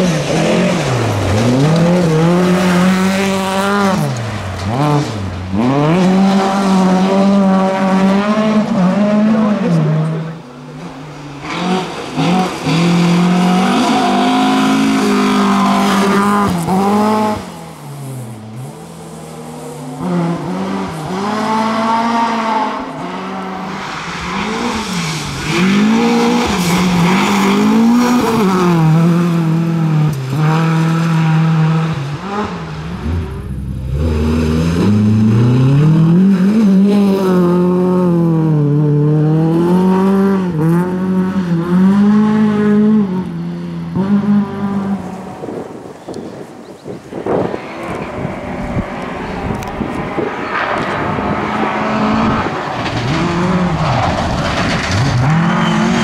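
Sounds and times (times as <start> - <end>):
rally car engine revving: 0.0 - 46.3, 47.1 - 56.0.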